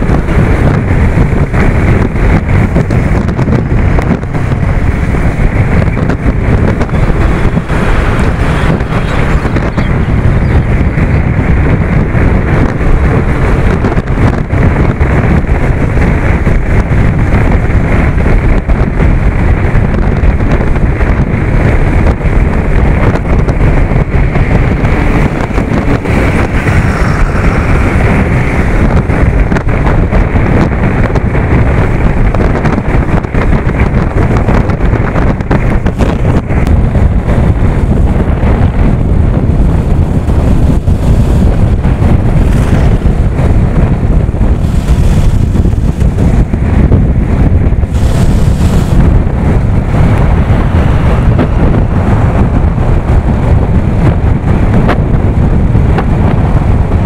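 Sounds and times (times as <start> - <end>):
road noise rumbling: 0.0 - 57.0
wind buffeting microphone: 0.0 - 57.0.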